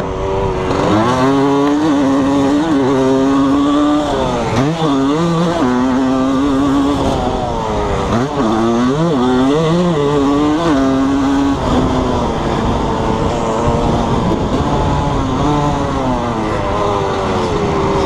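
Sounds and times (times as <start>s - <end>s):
motocross engine revving: 0.0s - 18.0s.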